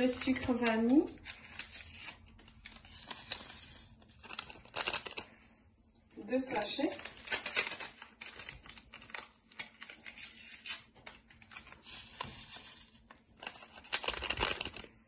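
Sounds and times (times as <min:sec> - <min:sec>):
paper sachets crinkling and tearing: 0:00.0 - 0:05.5, 0:06.5 - 0:15.0
sachet rustling: 0:01.1 - 0:05.5, 0:06.5 - 0:15.0.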